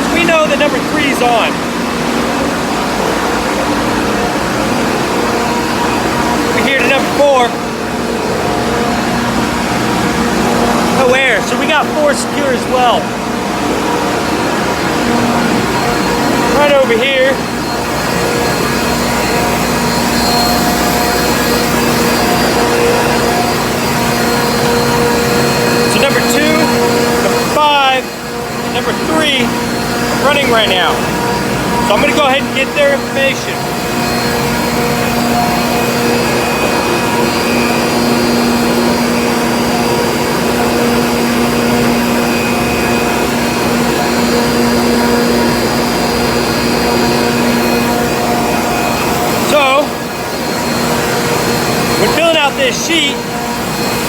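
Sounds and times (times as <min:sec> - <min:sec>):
refrigeration compressors droning: 0:00.0 - 0:54.0
thin high whine: 0:00.0 - 0:54.0.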